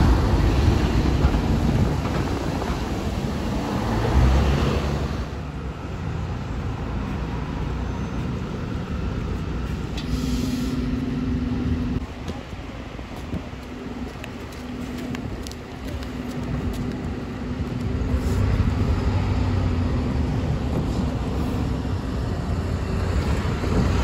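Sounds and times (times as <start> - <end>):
heavy vehicle engine: 0.0 - 24.0.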